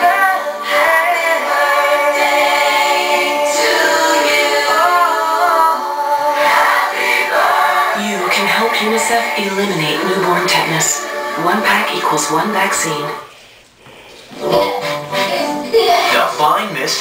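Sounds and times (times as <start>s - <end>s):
music with singing from television: 0.0s - 17.0s.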